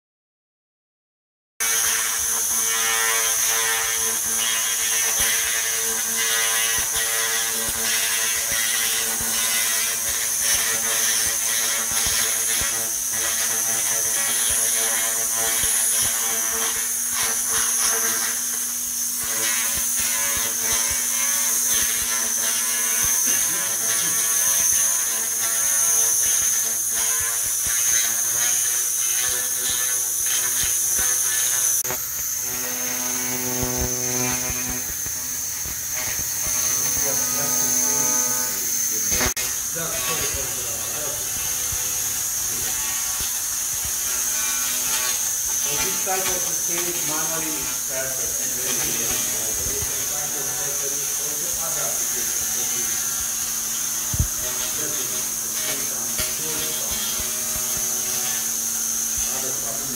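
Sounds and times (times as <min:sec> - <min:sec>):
crackle of laser ablation: 0:01.6 - 0:59.9
laser cleaner high-pitched whine: 0:01.6 - 0:59.9
steady hum: 0:03.4 - 0:59.9.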